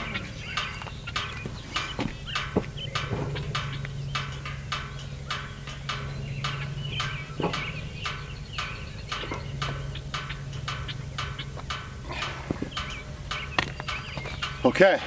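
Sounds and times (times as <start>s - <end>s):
sawmill engine humming: 0.0s - 15.0s.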